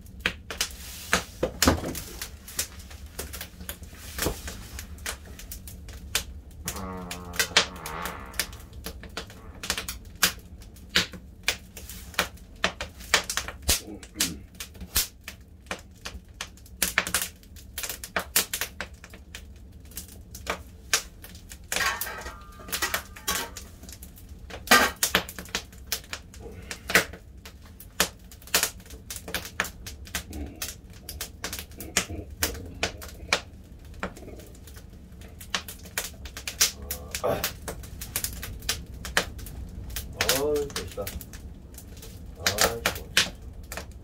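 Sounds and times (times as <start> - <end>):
firewood crackling and popping: 0.0 - 44.0.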